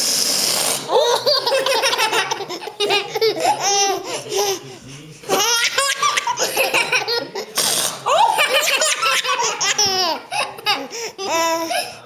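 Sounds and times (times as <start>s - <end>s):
baby laughing: 0.9s - 12.0s.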